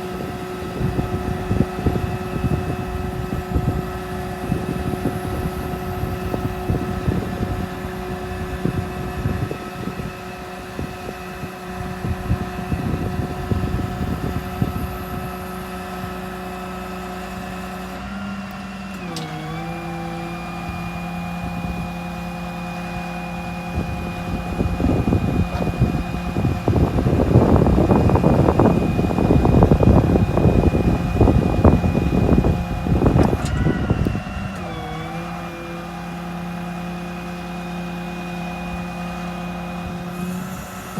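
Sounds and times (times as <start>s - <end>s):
diesel engine running: 0.0s - 40.9s
steady whine: 0.0s - 40.9s.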